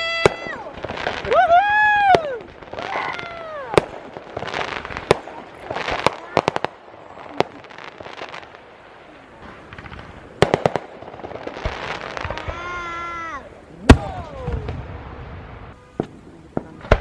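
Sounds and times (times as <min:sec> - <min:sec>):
firework cracks and crackling: 0:00.0 - 0:17.0.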